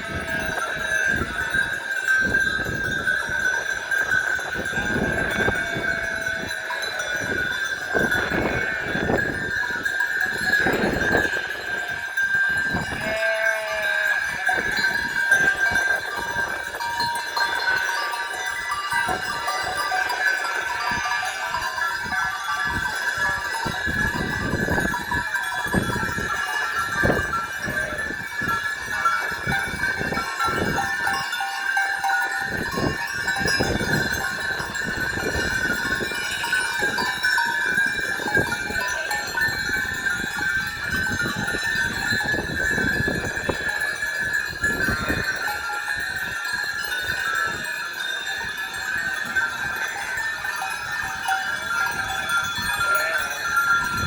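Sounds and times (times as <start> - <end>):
sheep bells jingling and clanking: 0.0 - 54.0.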